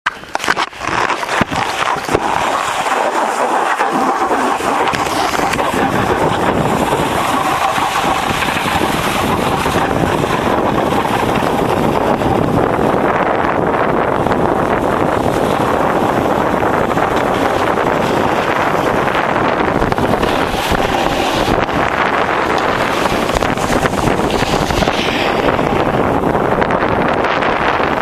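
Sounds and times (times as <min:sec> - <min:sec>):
snowboard scraping over snow: 0:00.1 - 0:28.0
wind buffeting microphone: 0:00.1 - 0:28.0.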